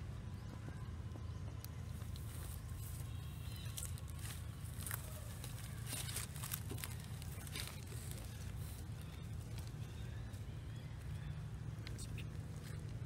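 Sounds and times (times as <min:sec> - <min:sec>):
dry leaves rustling and crackling: 0:01.9 - 0:13.0.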